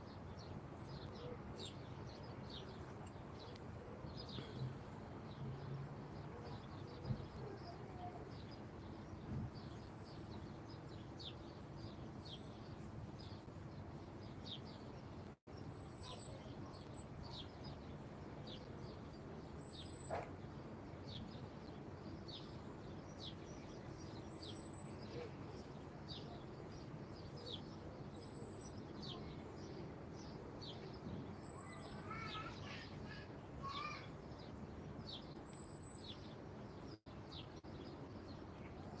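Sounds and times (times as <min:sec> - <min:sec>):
songbirds chirping: 0:00.0 - 0:39.0.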